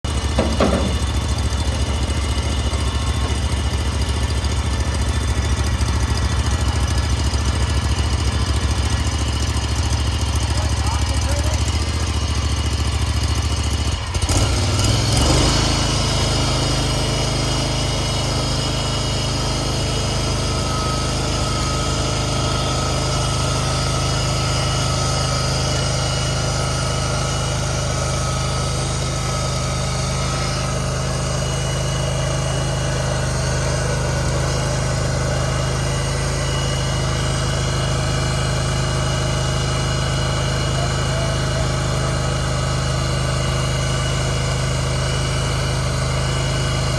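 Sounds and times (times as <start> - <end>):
stump grinder engine running: 0.0 - 46.9.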